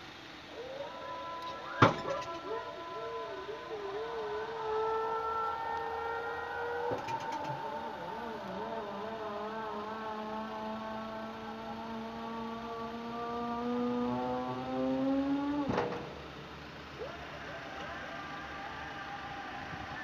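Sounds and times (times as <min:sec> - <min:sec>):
faint background hum: 0:00.0 - 0:20.0
motor whine: 0:00.0 - 0:20.0.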